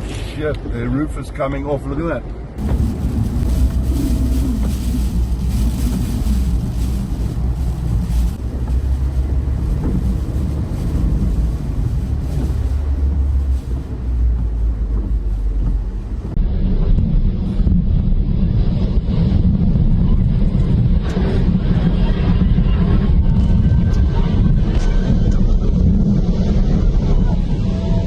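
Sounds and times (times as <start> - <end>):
strong wind on microphone: 2.5 - 28.0.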